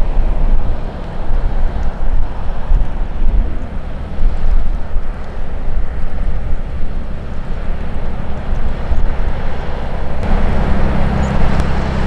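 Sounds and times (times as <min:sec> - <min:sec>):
boat diesel engine drone: 0:00.0 - 0:12.0
water rushing from bow wave: 0:00.0 - 0:12.0.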